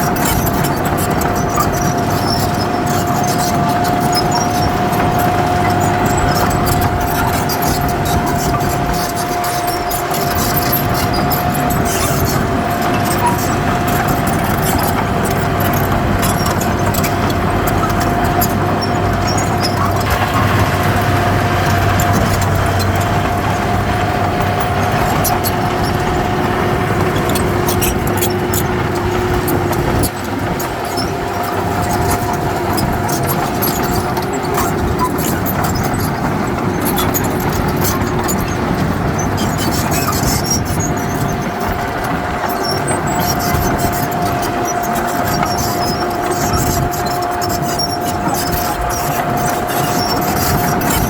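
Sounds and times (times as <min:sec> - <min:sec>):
diesel machinery engine running: 0:00.0 - 0:51.0.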